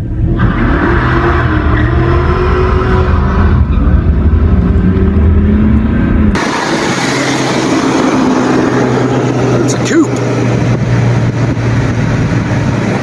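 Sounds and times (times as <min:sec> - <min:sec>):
car engine accelerating hard: 0:00.0 - 0:13.0
road and wind noise: 0:00.0 - 0:13.0.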